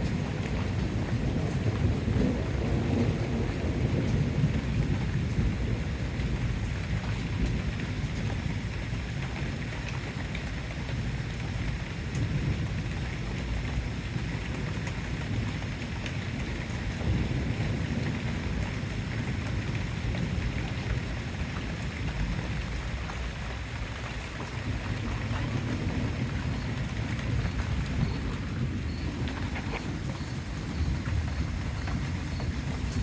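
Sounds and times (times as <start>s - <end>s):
low thunder rumble: 0.0s - 9.6s, 12.2s - 33.0s
steady rain: 0.0s - 33.0s.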